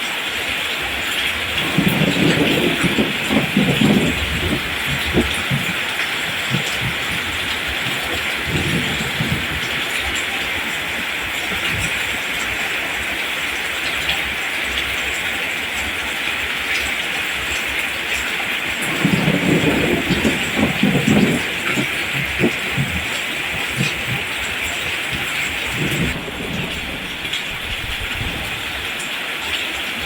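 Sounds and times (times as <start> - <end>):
heavy raindrops pattering: 0.0 - 30.0
steady rain hiss: 0.0 - 30.0.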